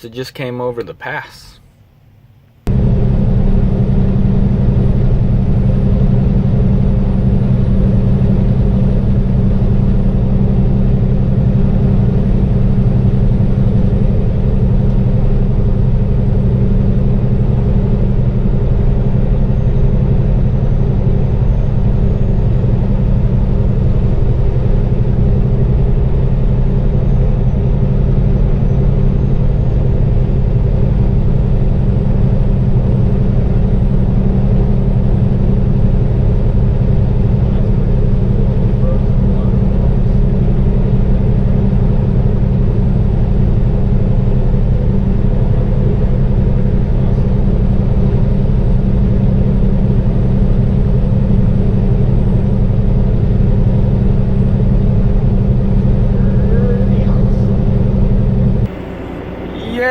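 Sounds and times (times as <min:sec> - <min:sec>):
truck diesel engine droning: 0:02.7 - 0:59.9.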